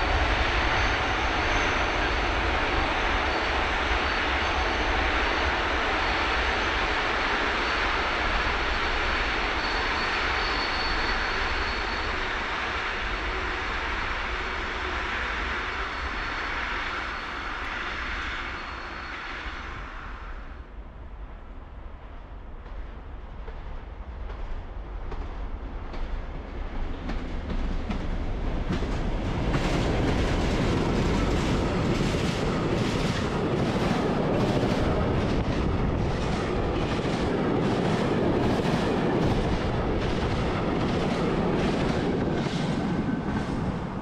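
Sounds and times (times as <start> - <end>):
diesel train passing: 0.0 - 44.0.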